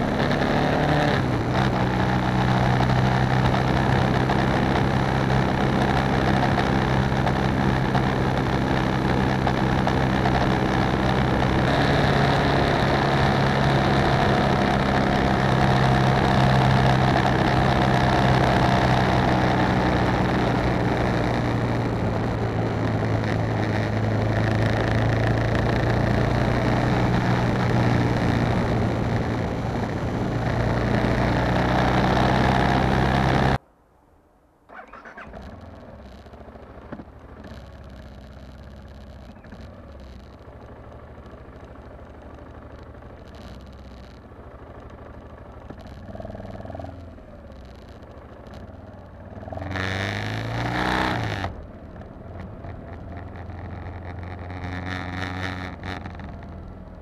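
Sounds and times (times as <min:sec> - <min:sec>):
motorcycle engine revving: 0:00.0 - 0:33.6, 0:34.7 - 0:57.0
motorcycle engine running: 0:00.0 - 0:33.6, 0:34.7 - 0:57.0.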